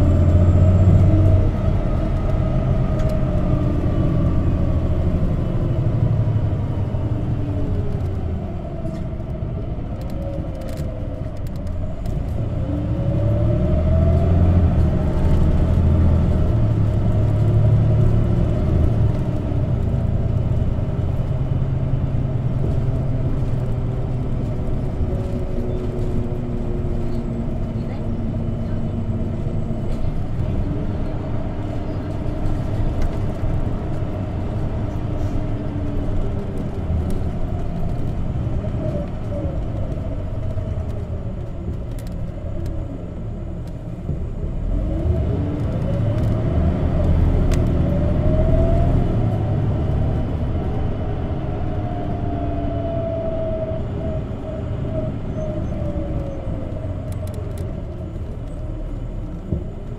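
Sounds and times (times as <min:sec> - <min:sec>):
bus engine and drivetrain whine: 0:00.0 - 0:59.9.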